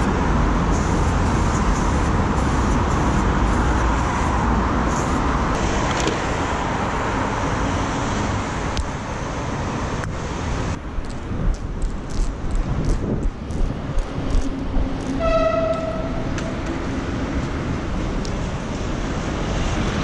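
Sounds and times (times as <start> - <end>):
passing cars on a highway: 0.0 - 20.0.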